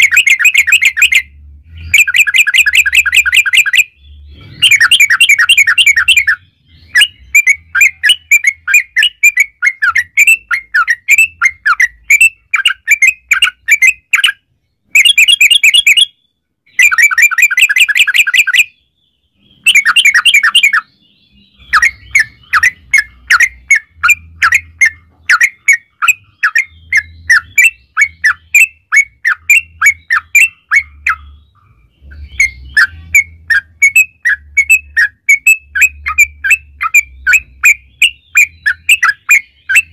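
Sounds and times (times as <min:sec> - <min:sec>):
bird singing bubbly trills: 0:00.0 - 0:39.9.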